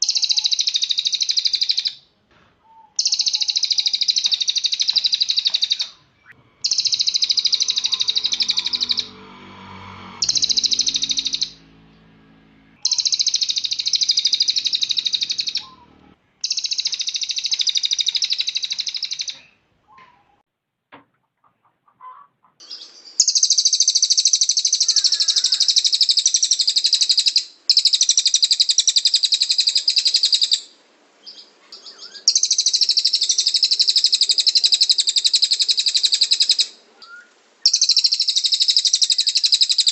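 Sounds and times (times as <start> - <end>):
songbird high-pitched trilling: 0.0 - 2.0, 2.7 - 9.2, 10.2 - 11.7, 12.8 - 19.5, 22.6 - 39.9.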